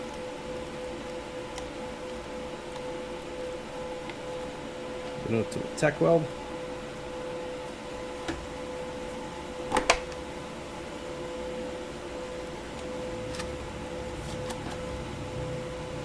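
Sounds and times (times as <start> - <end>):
welder humming: 0.0 - 16.0.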